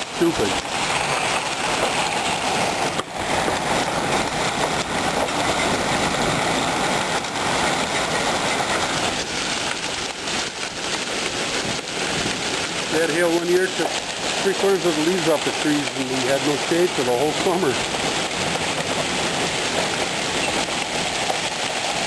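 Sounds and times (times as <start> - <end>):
hail and heavy rain pelting: 0.0 - 22.0.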